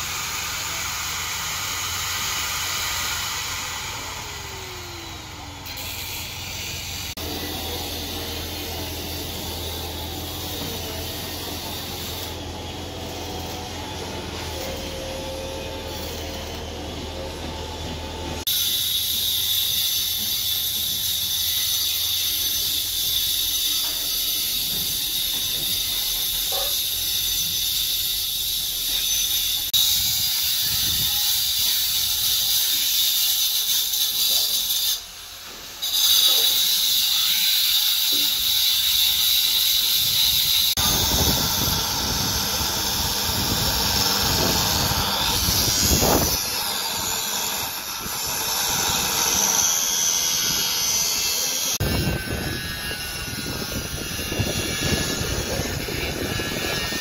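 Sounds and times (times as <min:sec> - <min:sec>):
angle grinders cutting: 0:00.0 - 0:57.0.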